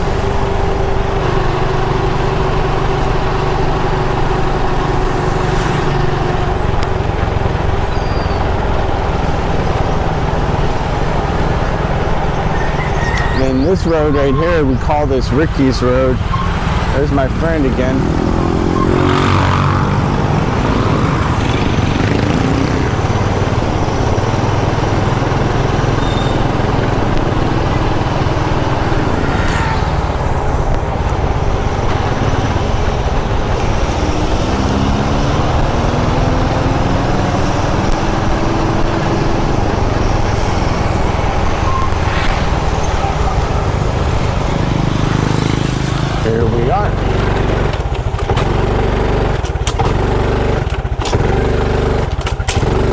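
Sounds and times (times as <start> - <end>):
motorcycle engine rumble: 0.0 - 52.9.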